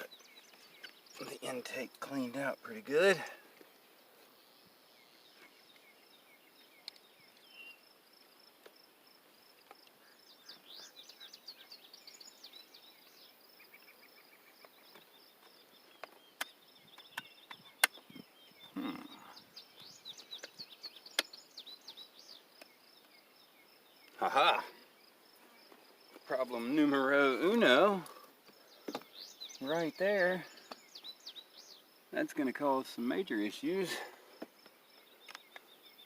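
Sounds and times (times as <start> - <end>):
birds chirping: 0.0 - 36.0
insects calling: 0.0 - 36.0.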